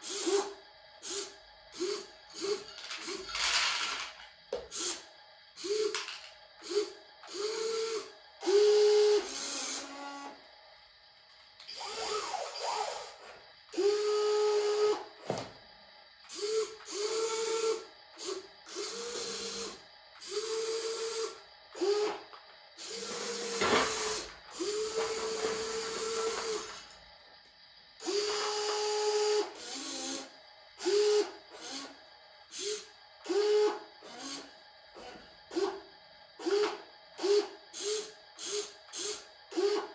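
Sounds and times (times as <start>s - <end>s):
small electric motors whining: 0.0s - 10.5s, 11.6s - 15.5s, 16.2s - 27.1s, 28.0s - 39.9s.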